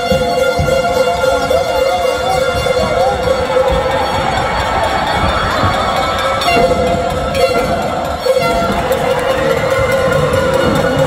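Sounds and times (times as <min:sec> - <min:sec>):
crowd cheering and shouting: 0:00.0 - 0:11.0.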